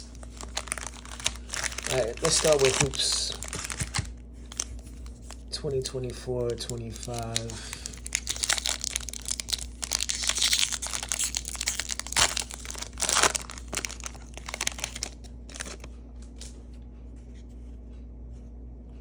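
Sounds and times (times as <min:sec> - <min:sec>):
card pack wrapper tearing: 0:00.0 - 0:05.5, 0:06.3 - 0:16.5
faint rustling of cards: 0:00.0 - 0:17.9.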